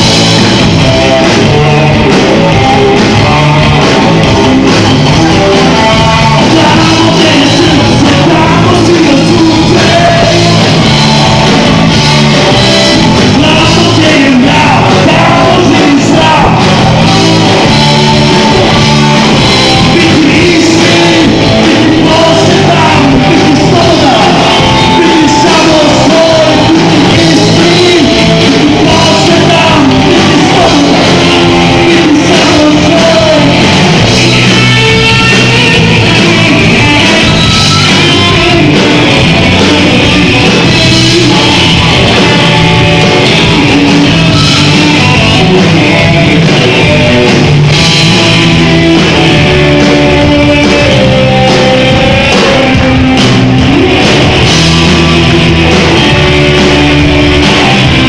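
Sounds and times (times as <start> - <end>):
drums: 0.0 - 58.0
electric guitars: 0.0 - 58.0
man singing: 1.0 - 47.5, 48.1 - 57.8.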